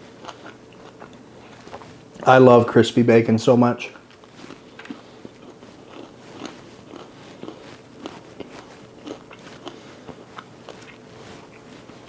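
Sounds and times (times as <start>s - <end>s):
person chewing crispy bacon: 0.0s - 2.2s, 4.0s - 12.0s.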